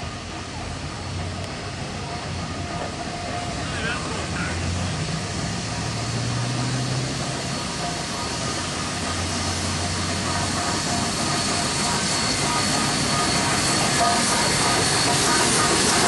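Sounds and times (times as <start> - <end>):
steam locomotives running: 0.0 - 16.0.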